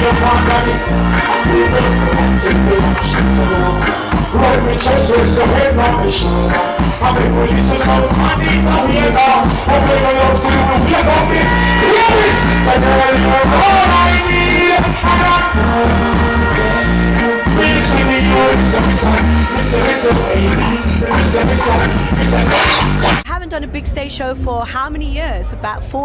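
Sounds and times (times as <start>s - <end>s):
dancehall reggae music with singing: 0.0s - 23.3s.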